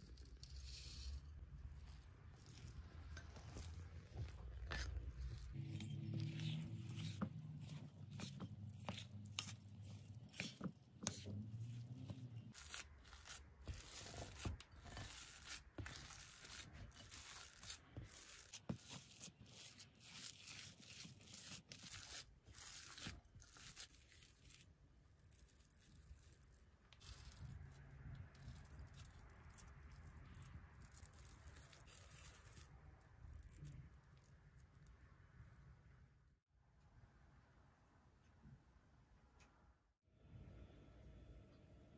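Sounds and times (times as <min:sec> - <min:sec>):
hands squishing crumbly mixture: 0:00.0 - 0:35.8.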